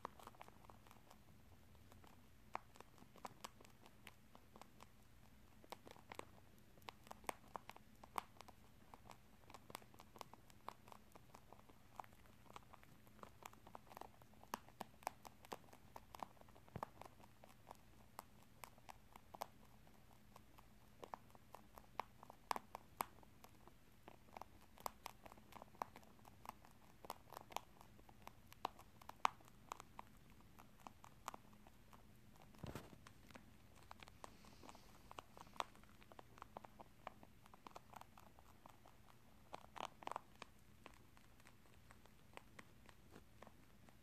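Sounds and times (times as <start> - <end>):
rabbit crunching snacks: 0.0 - 44.0.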